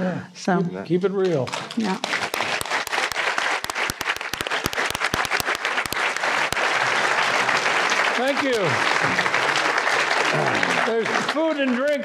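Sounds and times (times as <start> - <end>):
audience applauding: 1.2 - 12.0
sharp claps close to microphone: 1.2 - 12.0.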